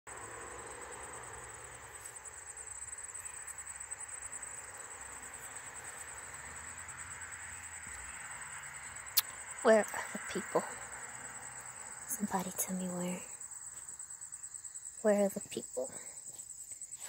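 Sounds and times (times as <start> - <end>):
faint outdoor ambience: 0.1 - 17.0
insects trilling: 0.1 - 17.0.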